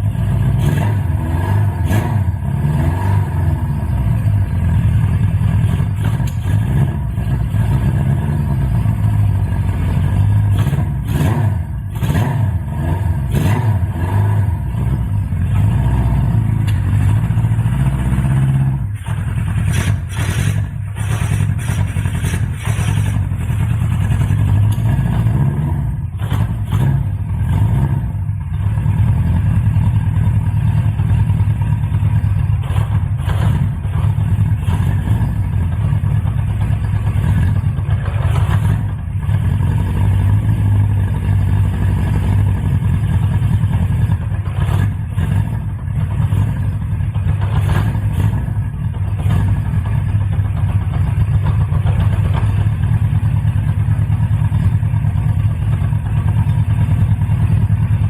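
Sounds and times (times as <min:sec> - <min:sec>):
motorcycle engine idling: 0:03.3 - 0:58.0.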